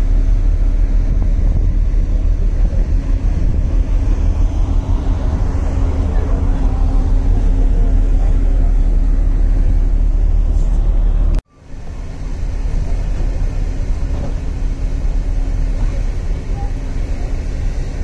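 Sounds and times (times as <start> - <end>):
ferry engines rumbling: 0.0 - 18.0.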